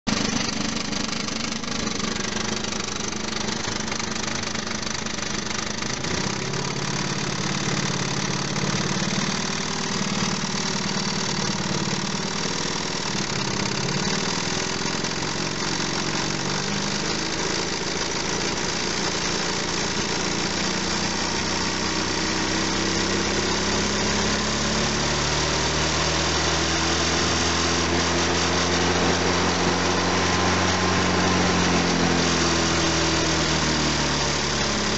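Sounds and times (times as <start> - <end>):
car engine running with knock: 0.1 - 25.8, 26.6 - 34.9.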